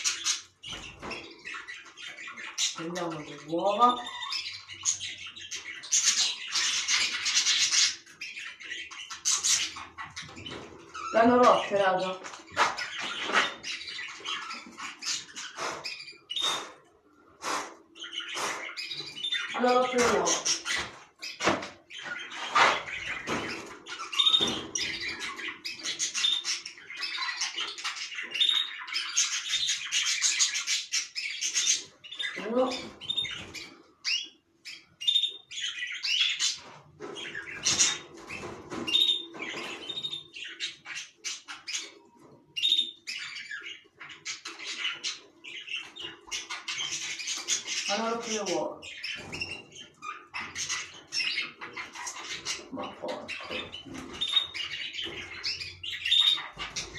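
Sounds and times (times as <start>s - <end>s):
canaries chirping: 0.0s - 56.9s.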